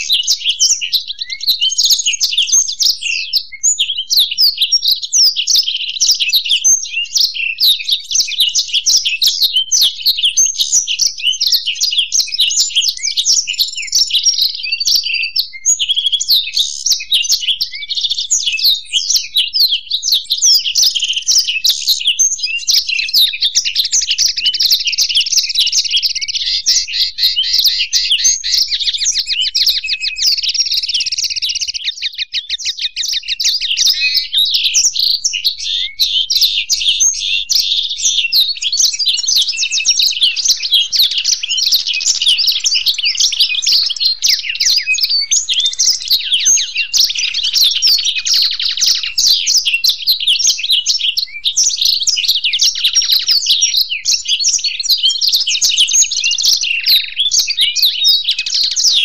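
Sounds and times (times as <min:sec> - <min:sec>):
birds twittering and trilling: 0:00.0 - 0:59.0.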